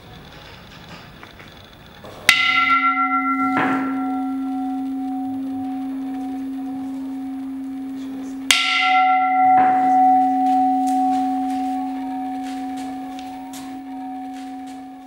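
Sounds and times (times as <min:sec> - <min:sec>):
bowl bell ringing: 0:02.3 - 0:15.0.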